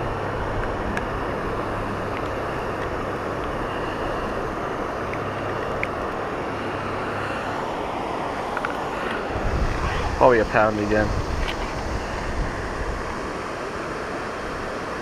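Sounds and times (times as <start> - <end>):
low hum: 0.0 - 13.6
outdoor rumble and hiss: 0.0 - 15.0.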